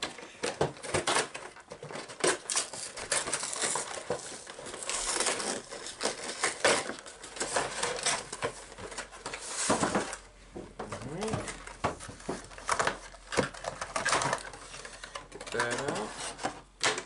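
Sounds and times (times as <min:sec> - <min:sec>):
cardboard tearing and rustling: 0:00.0 - 0:10.3, 0:10.9 - 0:17.0.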